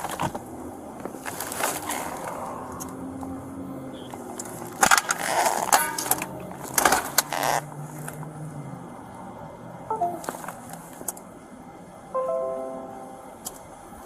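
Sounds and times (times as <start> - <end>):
vehicle hum: 0.0 - 14.0.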